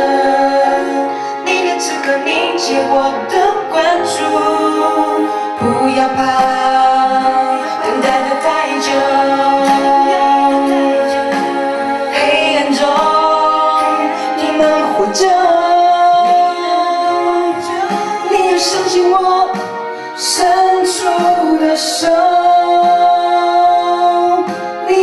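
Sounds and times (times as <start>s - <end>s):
instrumental accompaniment: 0.0s - 25.0s
person singing into microphone: 0.0s - 25.0s.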